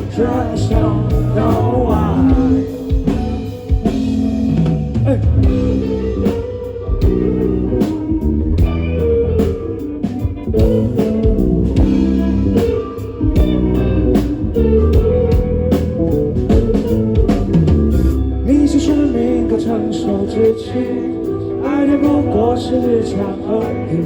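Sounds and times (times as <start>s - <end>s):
drum kit: 0.0s - 19.3s
bass guitar: 0.0s - 24.0s
electric guitar line: 0.0s - 24.0s.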